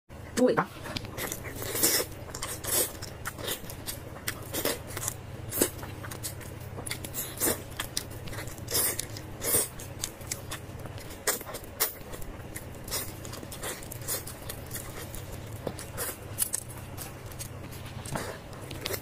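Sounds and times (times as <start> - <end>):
steady low hum: 0.1 - 19.0
biting and chewing: 0.8 - 19.0.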